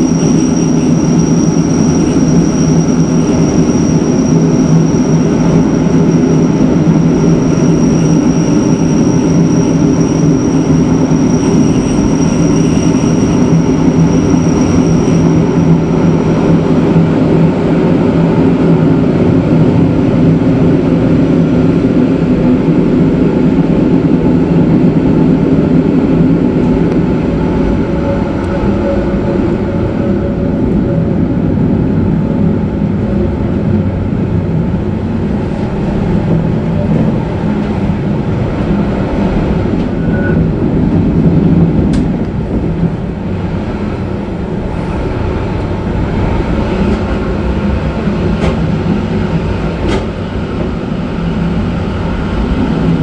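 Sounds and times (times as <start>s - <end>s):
train running gear rumble: 0.0s - 53.0s.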